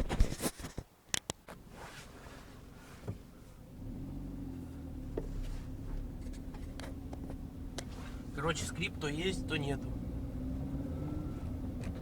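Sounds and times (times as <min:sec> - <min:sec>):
car engine humming: 0:01.6 - 0:12.0.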